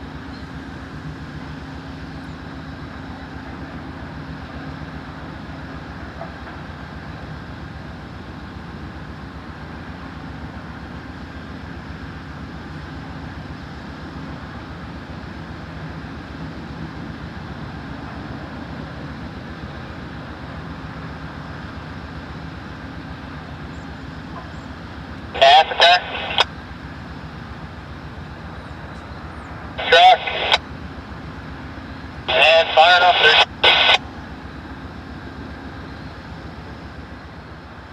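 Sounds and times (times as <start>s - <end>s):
diesel locomotive engine running: 0.0s - 37.9s.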